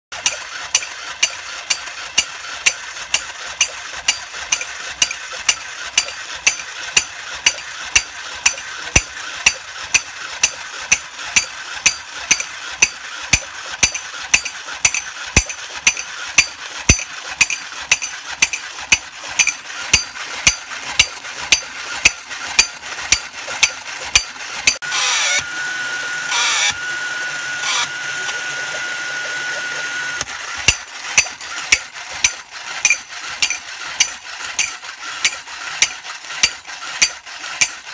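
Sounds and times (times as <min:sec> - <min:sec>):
toy motor whirring: 0:00.1 - 0:37.9
toy monkey clashing tin cymbals: 0:00.2 - 0:24.8, 0:30.3 - 0:37.9.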